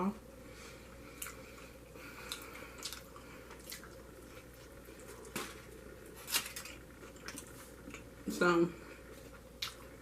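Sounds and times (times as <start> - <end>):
person chewing food: 0.8 - 8.2, 9.0 - 10.0.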